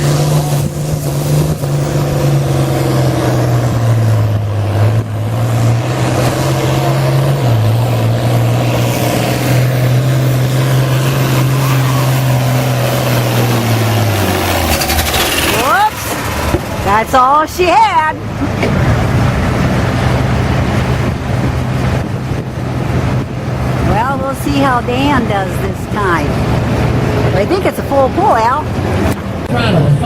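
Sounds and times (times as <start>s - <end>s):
tractor engine running under load: 0.0s - 29.5s.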